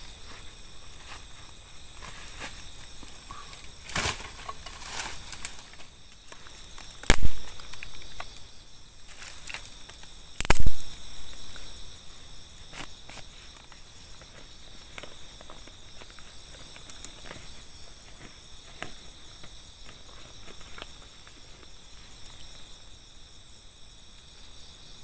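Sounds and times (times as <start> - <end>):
rustling leaves and sticks underfoot: 0.0 - 23.0
crickets chirping: 0.0 - 25.0.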